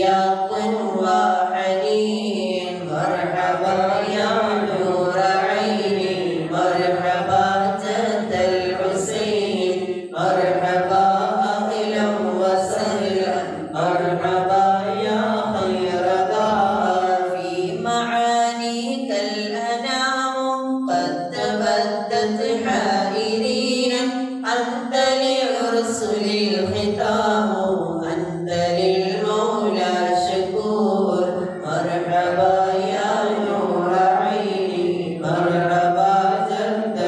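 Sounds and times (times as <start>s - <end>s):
men chanting devotional verses: 0.0s - 37.0s.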